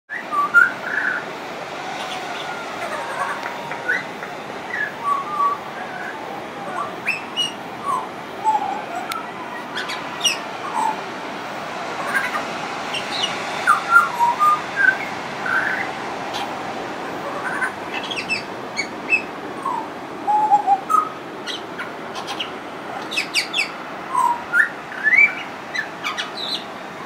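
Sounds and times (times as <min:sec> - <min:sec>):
steady background hiss: 0:00.1 - 0:27.0.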